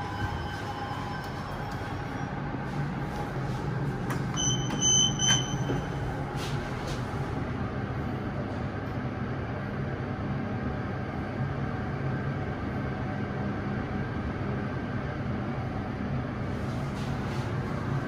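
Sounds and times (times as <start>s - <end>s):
lift car hum and rumble: 0.0s - 18.0s.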